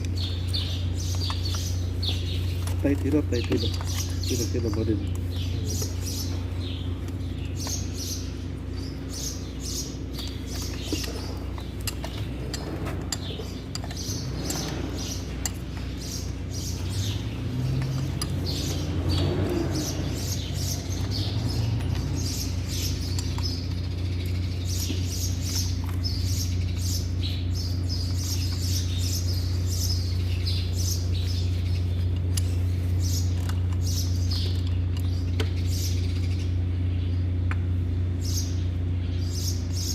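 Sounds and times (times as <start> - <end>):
machinery humming: 0.0 - 39.9
small birds chirping: 0.0 - 39.9.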